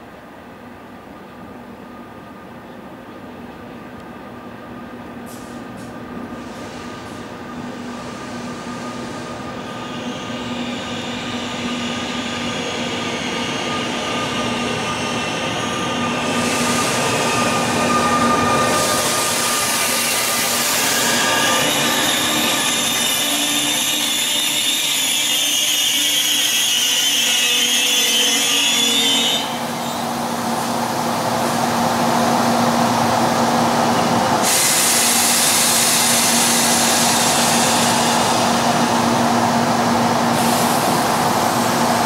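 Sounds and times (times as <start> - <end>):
train rolling past: 0.0 - 42.0.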